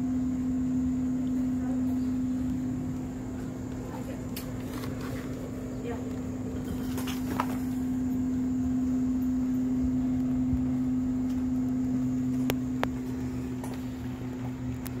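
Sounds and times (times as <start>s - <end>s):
vending machine humming: 0.0s - 15.0s.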